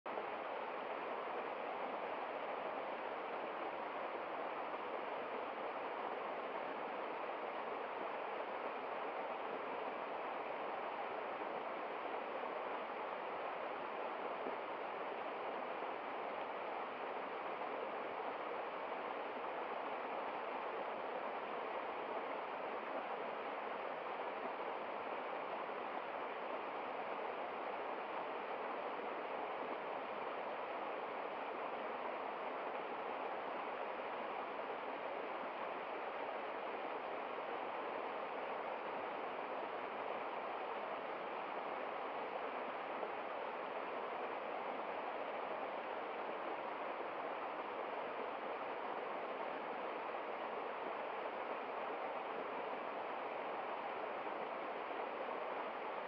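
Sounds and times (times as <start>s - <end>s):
waterfall rushing and splashing: 0.1s - 56.0s.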